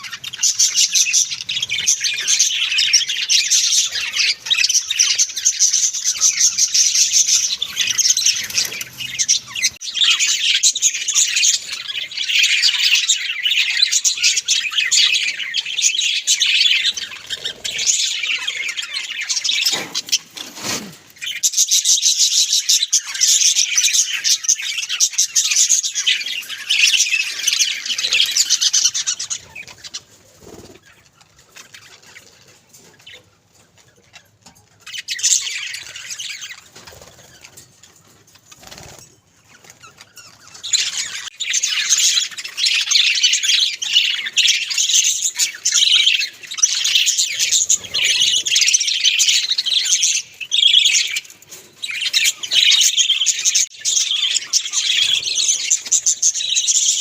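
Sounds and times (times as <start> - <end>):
budgerigars chattering and warbling: 0.0 - 57.0.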